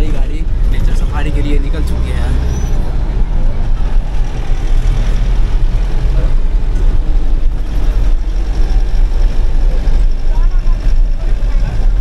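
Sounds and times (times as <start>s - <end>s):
diesel engine and road rumble: 0.0s - 12.0s.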